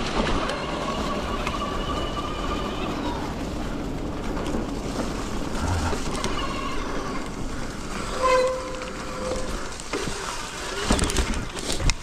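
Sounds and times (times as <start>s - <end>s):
bike riding rumble and rushing: 0.0s - 12.0s.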